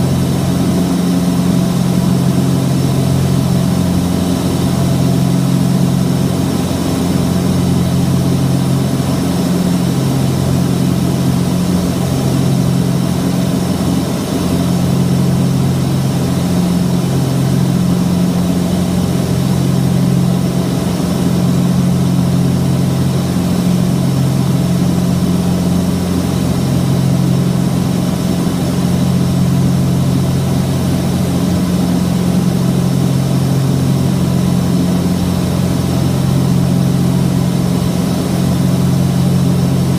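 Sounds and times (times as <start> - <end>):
aircraft propeller engines droning: 0.0 - 39.9.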